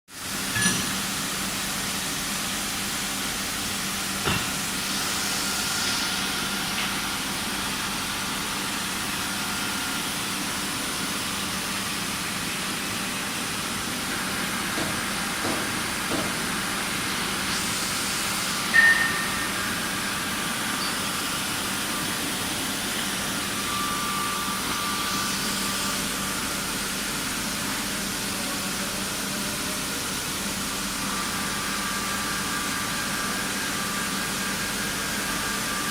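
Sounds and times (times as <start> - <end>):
sharpening machine hissing and humming: 3.8 - 35.9.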